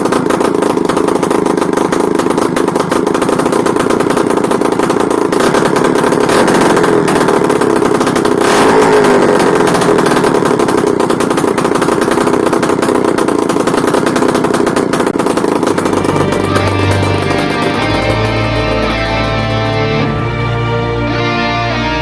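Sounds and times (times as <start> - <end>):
two-stroke engine running: 0.0 - 20.8.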